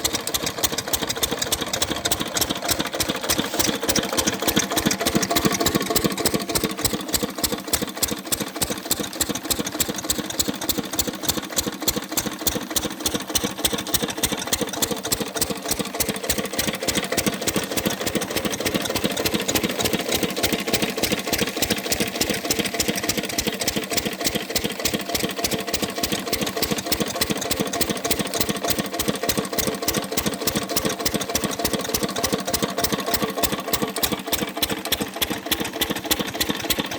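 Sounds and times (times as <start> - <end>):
engine chugging: 0.0 - 36.9.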